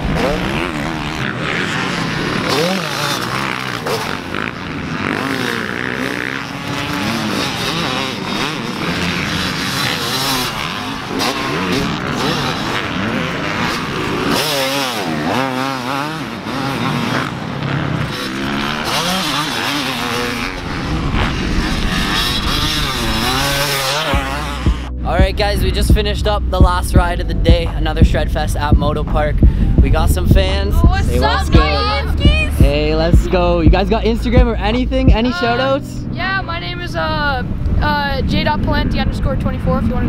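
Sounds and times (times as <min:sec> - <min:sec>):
dirt bike engine revving: 0:00.0 - 0:28.8, 0:29.4 - 0:37.2.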